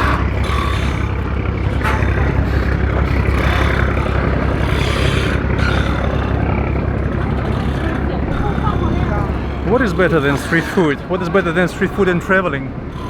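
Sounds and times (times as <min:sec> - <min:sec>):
boat engine deep rumble: 0:00.0 - 0:13.0.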